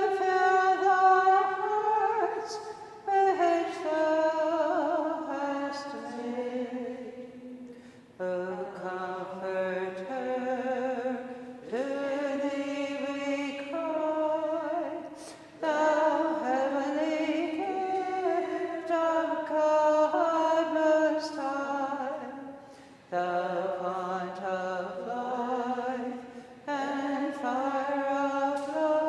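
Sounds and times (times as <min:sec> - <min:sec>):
women singing a hymn unaccompanied: 0:00.0 - 0:29.0.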